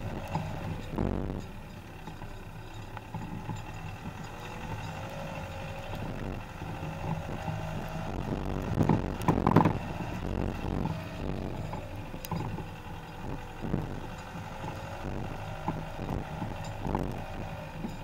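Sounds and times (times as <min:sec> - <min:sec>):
faint engine tone: 0:00.0 - 0:18.0
suspension knocks and rattles: 0:00.0 - 0:18.0.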